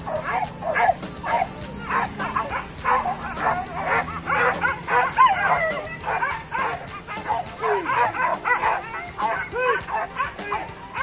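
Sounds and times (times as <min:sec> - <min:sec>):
dogs yelping excitedly: 0:00.0 - 0:11.0.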